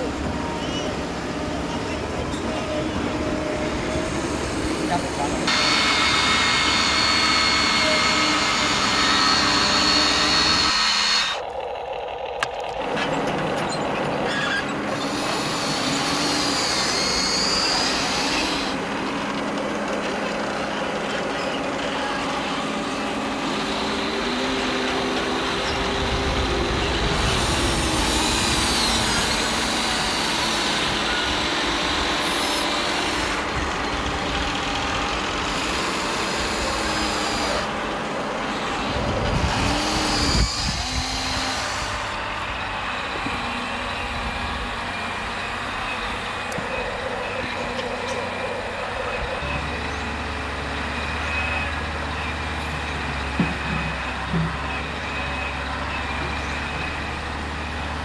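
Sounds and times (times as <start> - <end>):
toy excavator electric motors whining: 0.0 - 58.0.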